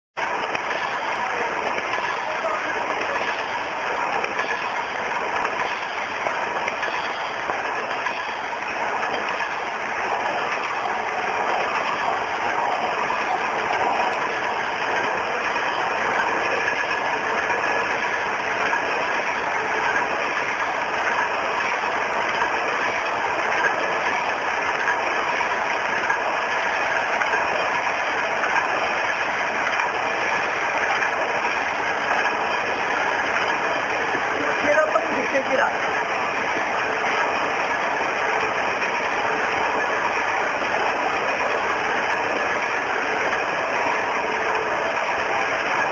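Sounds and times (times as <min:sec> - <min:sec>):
envelope machine clattering: 0:00.2 - 0:45.9.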